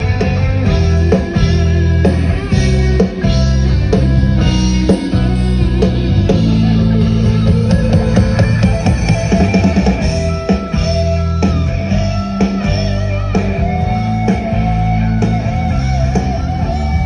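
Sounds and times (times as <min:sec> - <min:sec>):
drum kit: 0:00.0 - 0:17.0
guitar: 0:00.0 - 0:17.0
heavy bass: 0:00.0 - 0:17.0.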